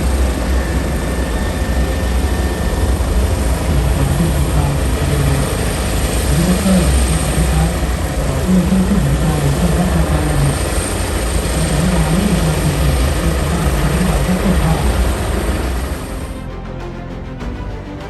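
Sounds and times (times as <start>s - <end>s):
helicopter rotor and turbine: 0.0s - 17.8s.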